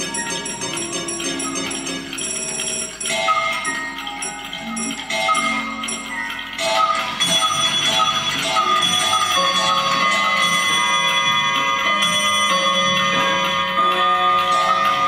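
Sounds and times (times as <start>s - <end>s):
bell-like chiming music: 0.0s - 15.0s.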